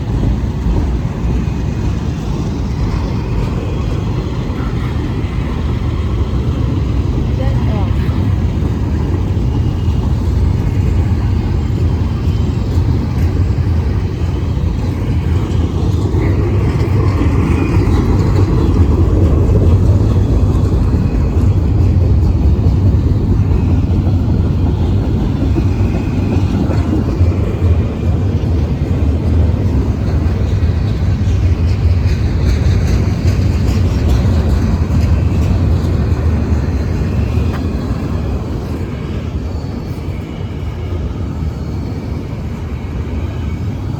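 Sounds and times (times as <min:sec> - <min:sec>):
freight train rumbling past: 0:00.0 - 0:43.9
train wheels squealing: 0:00.0 - 0:43.9.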